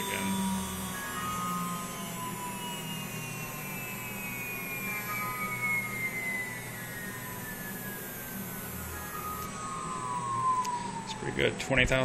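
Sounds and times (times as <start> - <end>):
low steady hum: 0.0 - 12.0
router spindle high whine: 0.0 - 12.0.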